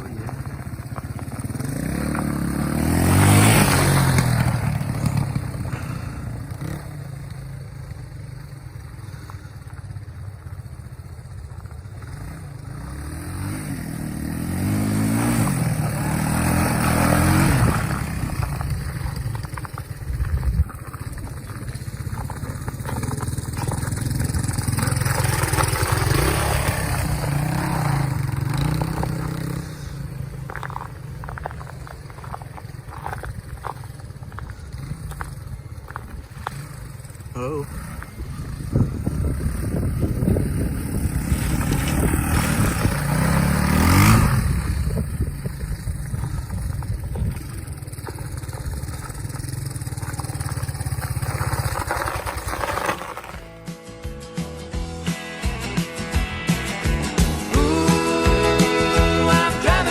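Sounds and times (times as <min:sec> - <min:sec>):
dirt bike engine revving: 0:00.0 - 0:09.4, 0:10.8 - 0:53.6.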